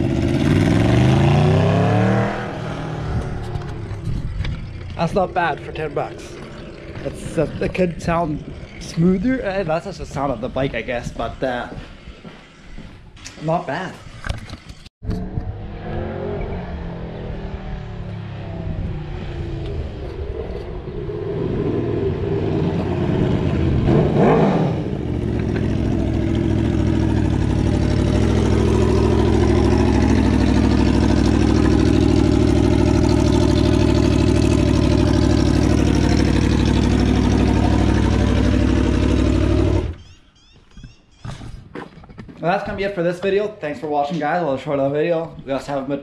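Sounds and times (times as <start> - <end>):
motorcycle engine revving and idling: 0.0 - 12.8, 15.0 - 40.2.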